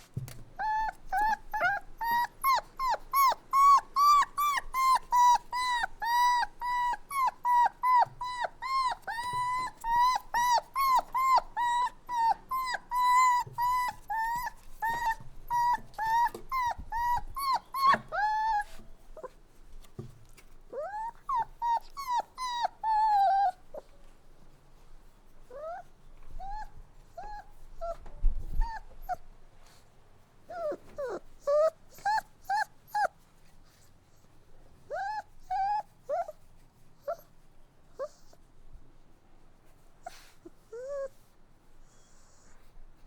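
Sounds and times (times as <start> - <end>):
puppy whining: 0.2 - 24.1, 25.4 - 29.8, 30.5 - 37.4, 38.0 - 38.4, 40.0 - 42.8
puppy whimpering: 0.3 - 19.4, 20.3 - 24.0, 25.4 - 29.3, 30.5 - 33.2, 34.9 - 36.4, 37.0 - 37.4, 38.0 - 38.4, 40.0 - 42.8.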